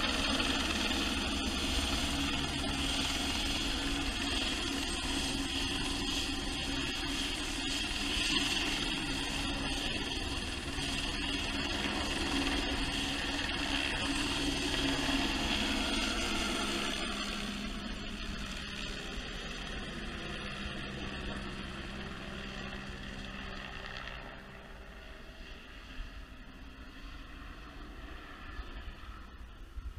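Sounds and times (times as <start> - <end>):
helicopter flying past: 0.0 - 29.9.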